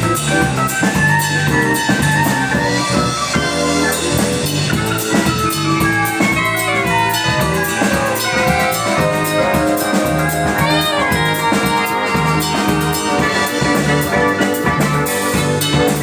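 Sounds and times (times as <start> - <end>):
instrumental band music: 0.0 - 16.0.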